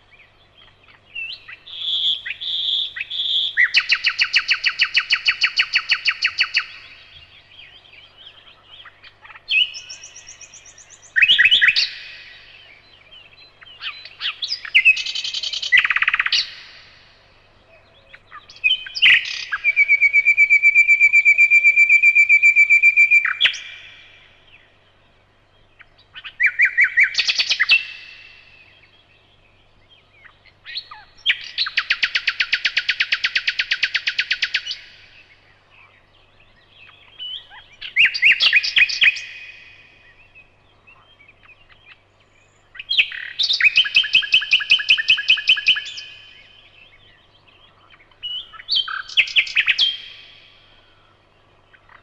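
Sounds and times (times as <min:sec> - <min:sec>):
nightingale singing: 0:00.0 - 0:52.0.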